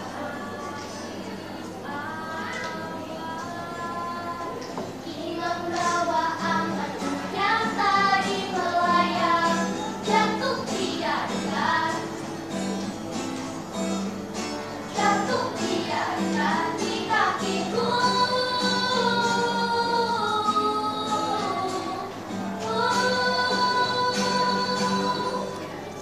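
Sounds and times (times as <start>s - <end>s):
girls singing in unison: 0.0s - 12.5s, 14.7s - 25.8s
acoustic guitar: 0.0s - 26.0s.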